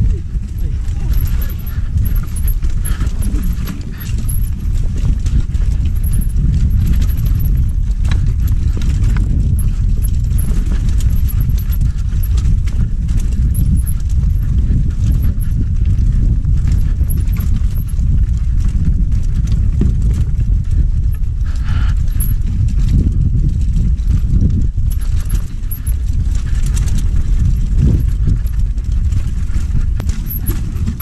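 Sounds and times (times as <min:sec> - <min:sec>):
bike rattling and knocking: 0:00.0 - 0:31.0
wind rumble on microphone: 0:00.0 - 0:31.0.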